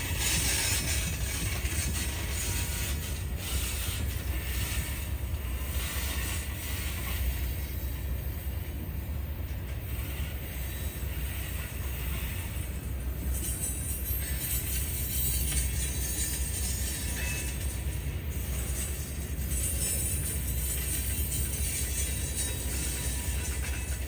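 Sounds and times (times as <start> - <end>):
train wheels rumbling on rail: 0.0 - 24.0
wheels clicking over rail joints: 0.0 - 24.0.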